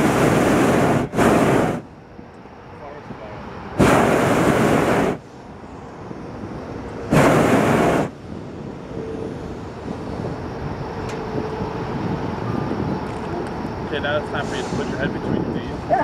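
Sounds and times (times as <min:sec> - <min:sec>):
propane burner blasts: 0:00.0 - 0:16.0
steady rush of air: 0:00.0 - 0:16.0.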